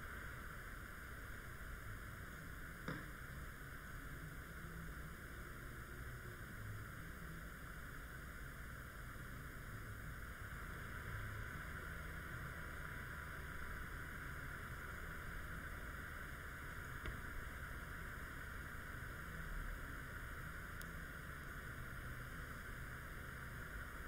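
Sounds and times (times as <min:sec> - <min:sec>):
faint low hum: 0:00.0 - 0:24.0
steady low hiss: 0:00.0 - 0:24.0.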